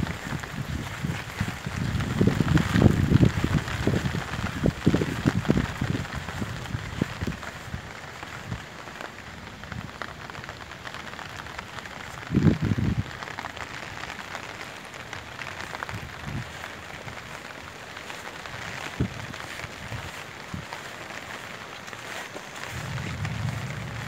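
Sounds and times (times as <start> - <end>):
rain on ground and leaves: 0.0 - 24.0.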